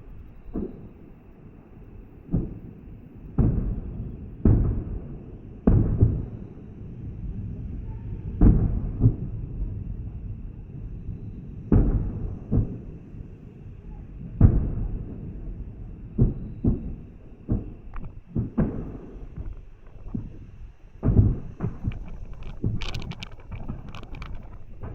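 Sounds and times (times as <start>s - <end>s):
fireworks booming: 0.5s - 24.9s
small firework bangs: 0.5s - 24.9s.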